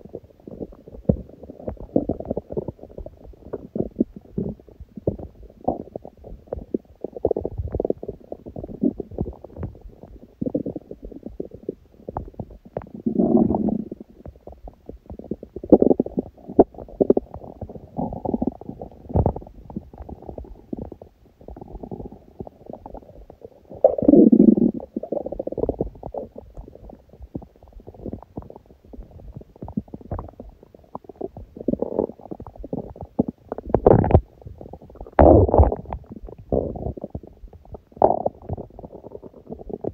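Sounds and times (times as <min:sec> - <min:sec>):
stomach gurgling: 0:00.0 - 0:39.9
stomach low rumbles: 0:00.0 - 0:39.9.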